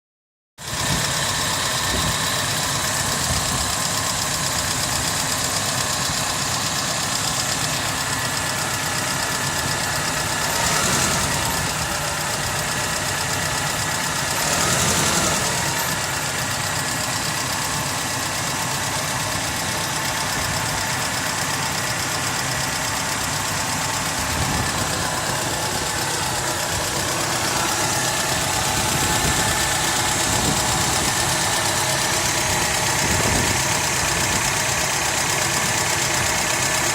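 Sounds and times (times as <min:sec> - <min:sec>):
car engine idling with knock: 0:00.6 - 0:36.9.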